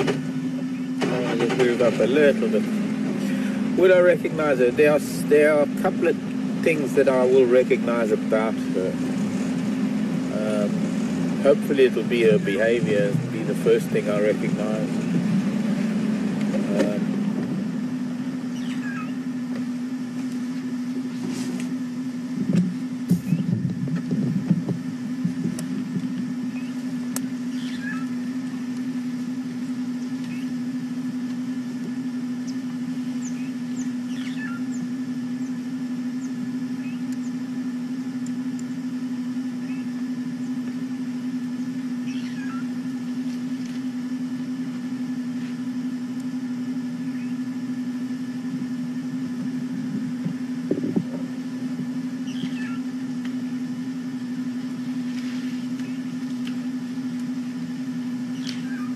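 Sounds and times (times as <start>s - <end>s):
vehicle engine idling: 0.0s - 58.9s.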